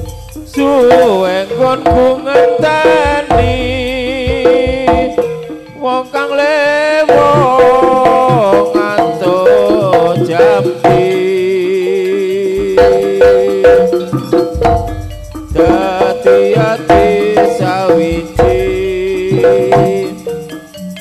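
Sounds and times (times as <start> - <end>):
struck percussion: 0.0 - 21.0
wavering melody line: 0.0 - 21.0.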